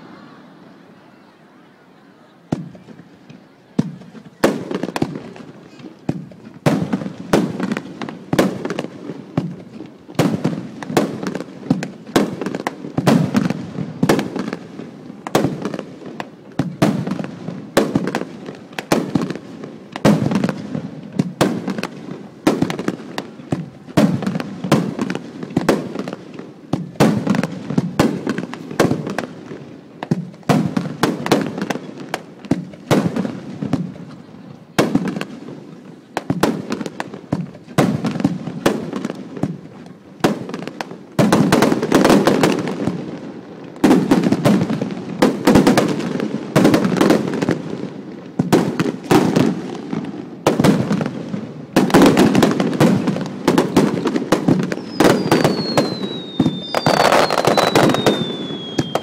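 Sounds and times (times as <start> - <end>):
fireworks bangs and crackles: 2.4 - 59.0.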